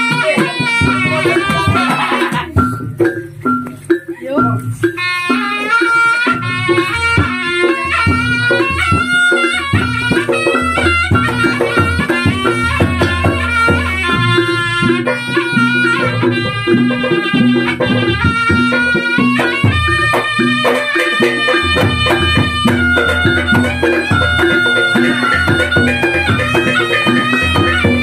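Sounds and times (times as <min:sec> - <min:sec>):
reedy wind instrument melody: 0:00.0 - 0:02.8, 0:04.6 - 0:28.0
drums: 0:00.0 - 0:28.0.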